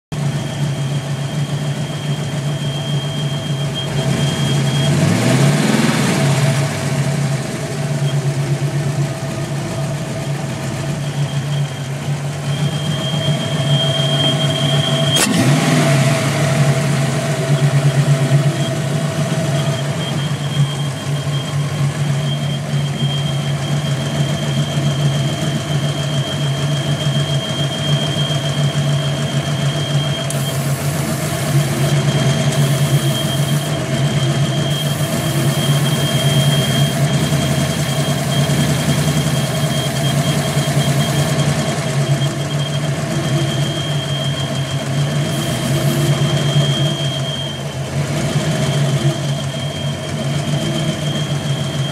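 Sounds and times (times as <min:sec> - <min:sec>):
engine idling and revving: 0:00.1 - 0:51.9
thin high whistle: 0:00.8 - 0:05.0, 0:11.0 - 0:15.6, 0:17.5 - 0:47.8, 0:48.8 - 0:51.9.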